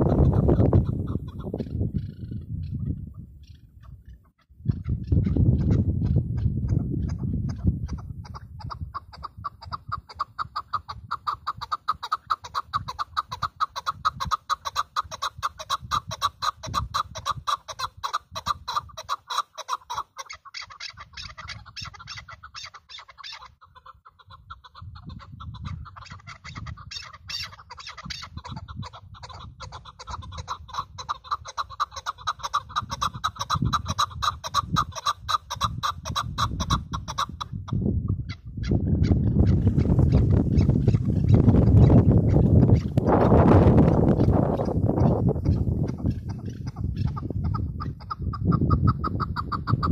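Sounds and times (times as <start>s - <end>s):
partridge clucking calls: 0.0s - 49.9s.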